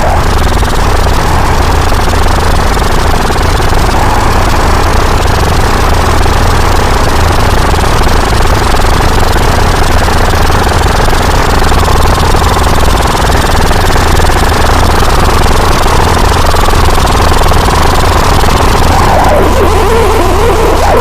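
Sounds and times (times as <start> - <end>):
mechanical rumble and rattle: 0.0 - 21.0.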